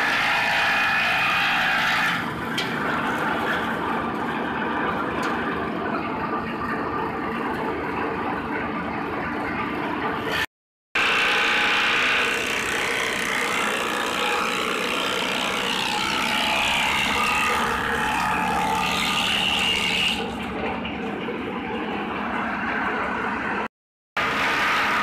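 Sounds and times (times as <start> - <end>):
forage chopper running: 0.0 - 10.1, 11.0 - 23.2.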